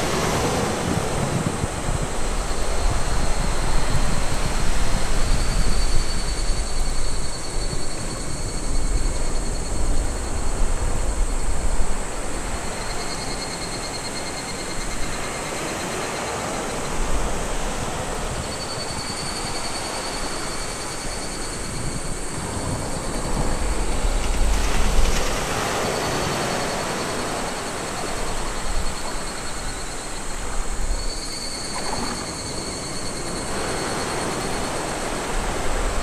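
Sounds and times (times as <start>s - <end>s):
small waves washing up beach: 0.0s - 8.3s, 10.2s - 36.0s
wind rumbling on microphone: 0.0s - 36.0s.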